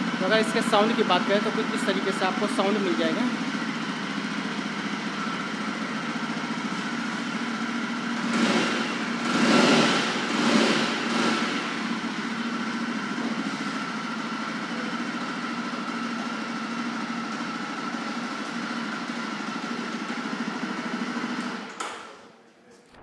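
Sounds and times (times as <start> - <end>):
motorcycle engine idling and revving: 0.0 - 22.1.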